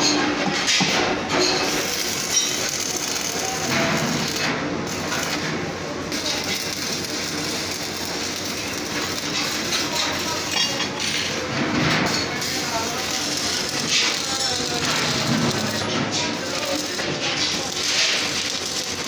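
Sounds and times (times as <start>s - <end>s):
arc welding sizzling hiss: 1.5s - 19.0s.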